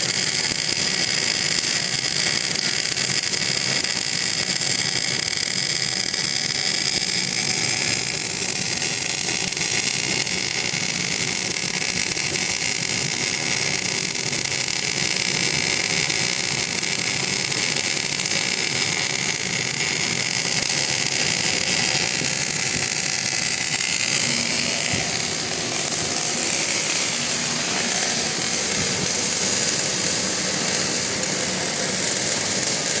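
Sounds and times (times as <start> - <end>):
steady machine noise with hiss: 0.0 - 33.0.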